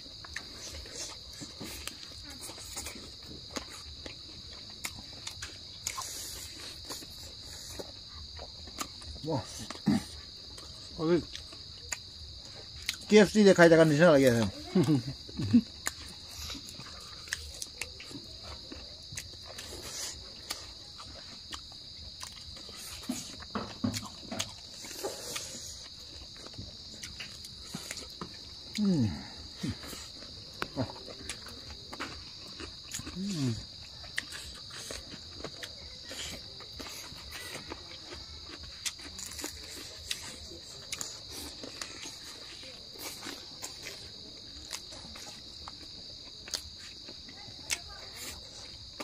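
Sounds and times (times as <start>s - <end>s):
chewing and lip smacks: 0.0s - 13.1s, 14.7s - 49.0s
high-pitched insect chorus: 0.0s - 49.0s.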